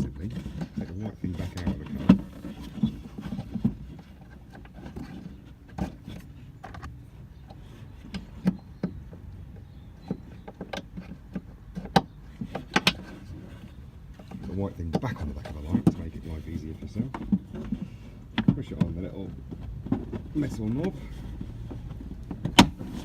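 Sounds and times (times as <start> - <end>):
hard plastic parts clicking: 0.0 - 13.5, 14.1 - 23.0.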